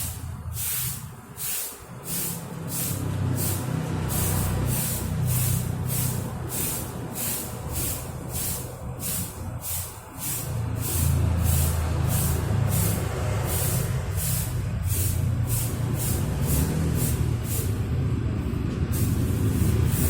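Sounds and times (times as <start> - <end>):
broom sweeping floor: 0.0 - 17.9, 18.5 - 20.0.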